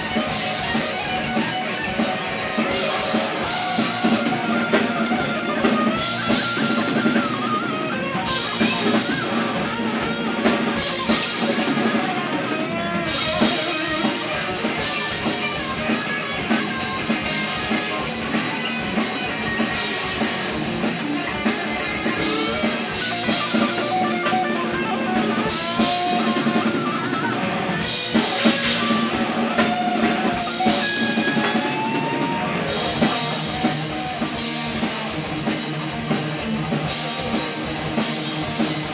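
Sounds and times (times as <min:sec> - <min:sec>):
drum kit kick and snare: 0:00.0 - 0:12.4, 0:13.1 - 0:38.9
electric guitars: 0:00.0 - 0:38.9.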